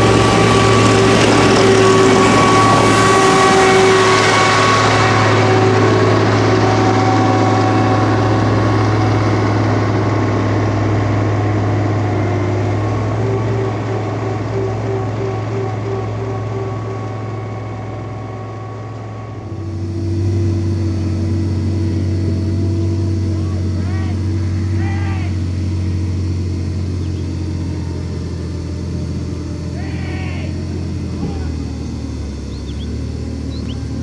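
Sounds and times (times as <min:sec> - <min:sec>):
truck diesel engine drone: 0:00.0 - 0:34.0.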